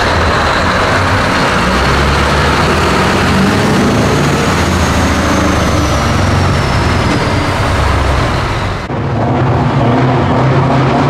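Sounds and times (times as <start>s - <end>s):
loud truck engines: 0.0s - 11.0s
truck driving through tunnel: 0.0s - 11.0s.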